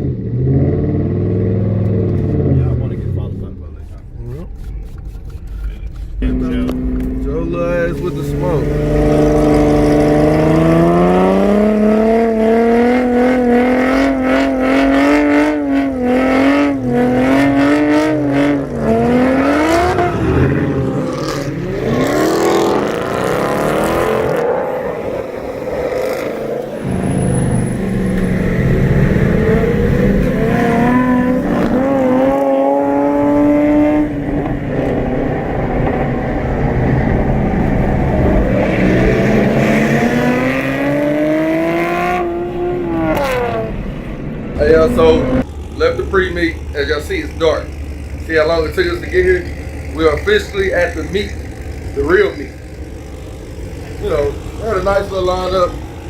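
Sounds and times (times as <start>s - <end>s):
cars accelerating past: 0.0s - 4.0s, 5.8s - 56.0s
car engines revving: 0.0s - 56.0s.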